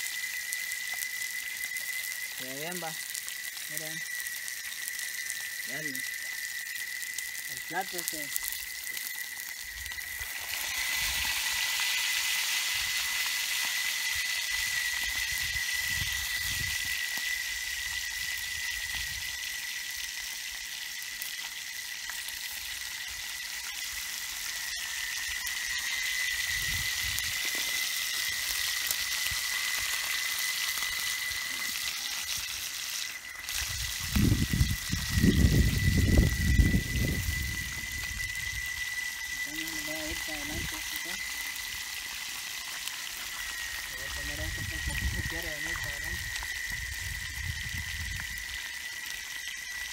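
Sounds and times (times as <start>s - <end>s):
fish sizzling in oil: 0.0s - 49.9s
thin high tone: 0.0s - 49.9s.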